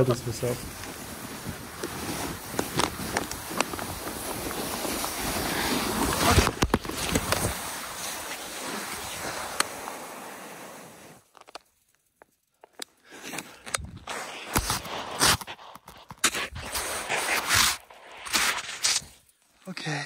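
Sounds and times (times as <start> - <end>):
person sliding down snow: 0.0 - 11.5, 13.1 - 19.3.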